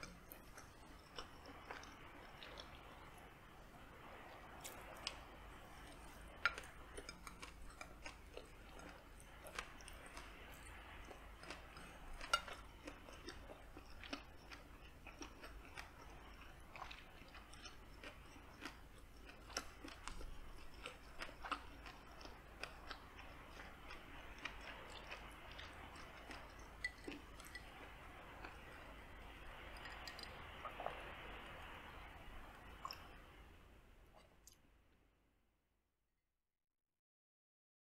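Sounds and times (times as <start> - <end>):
close chewing: 0.0 - 33.3.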